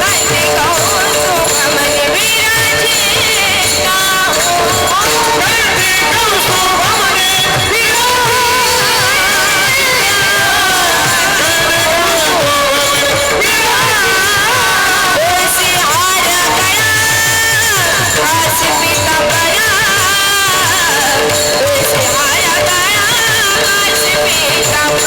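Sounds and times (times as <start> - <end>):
instrumental accompaniment: 0.0 - 25.0
woman singing devotional melody: 0.0 - 25.0.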